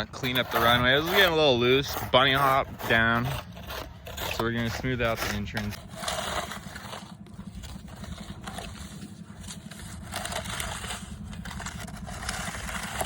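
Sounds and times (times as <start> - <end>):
dirt being scraped: 0.0 - 13.0
low rumble: 0.0 - 13.0.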